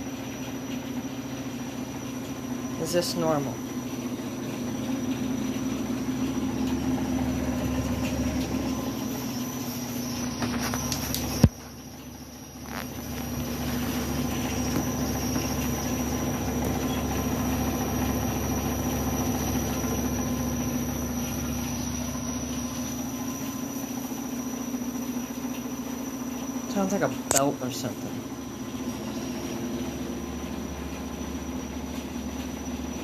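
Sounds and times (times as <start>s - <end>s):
washing machine running: 0.0s - 33.0s.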